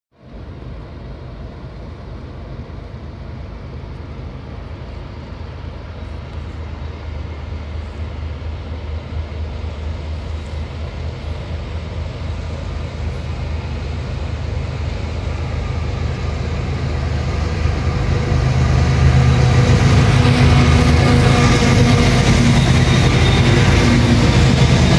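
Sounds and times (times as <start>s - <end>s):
diesel locomotive engine rumble: 0.2s - 24.9s.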